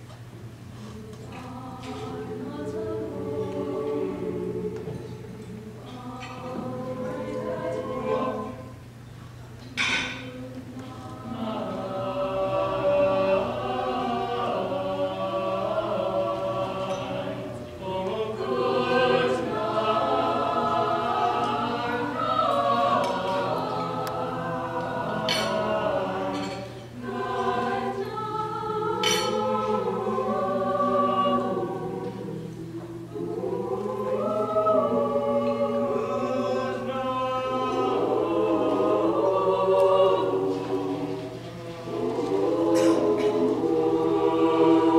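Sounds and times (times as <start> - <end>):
mixed choir singing: 0.8 - 9.0, 9.7 - 44.9.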